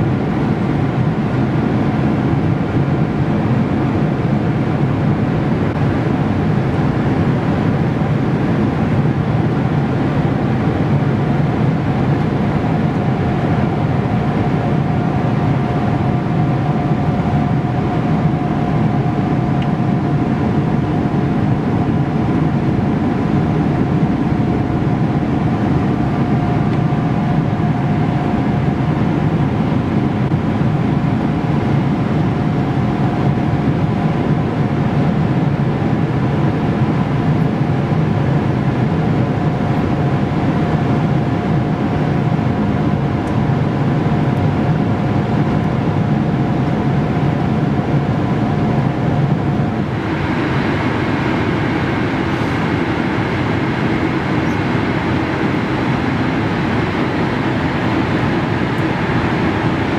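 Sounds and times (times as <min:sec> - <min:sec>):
airliner cabin roar: 0:00.0 - 0:59.9
faint steady hum: 0:00.0 - 0:59.9.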